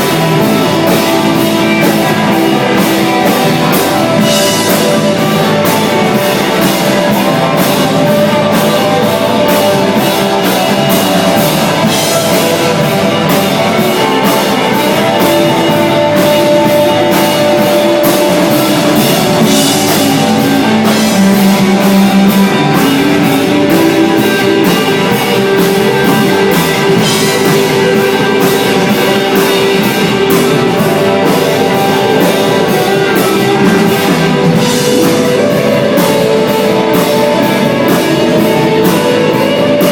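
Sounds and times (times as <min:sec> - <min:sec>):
bass guitar: 0:00.0 - 0:39.9
drum beat: 0:00.0 - 0:39.9
electric guitar: 0:00.0 - 0:39.9.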